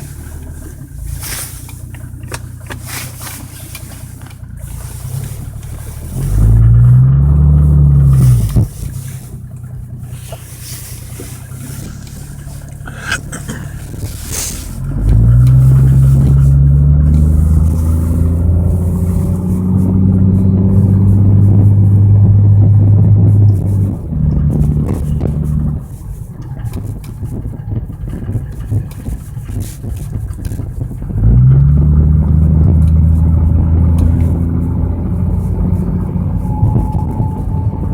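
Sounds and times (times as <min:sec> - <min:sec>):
car low droning hum: 0:00.0 - 0:37.9.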